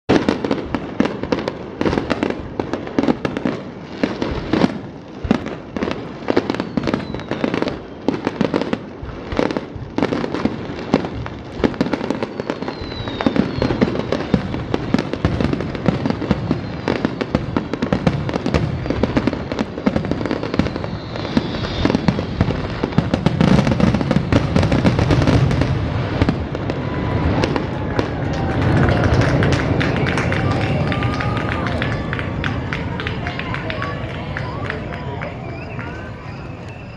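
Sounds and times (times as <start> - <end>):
fireworks crackling: 0.1 - 36.9.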